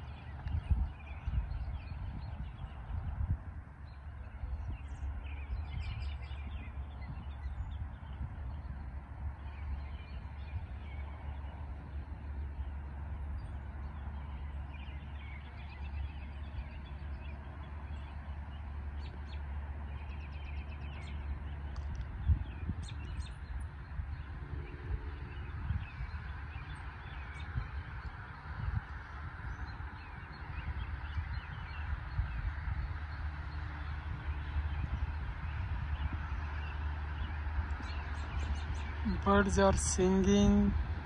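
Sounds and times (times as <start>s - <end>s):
low rumble: 0.0s - 41.0s
small songbirds chirping: 0.0s - 41.0s.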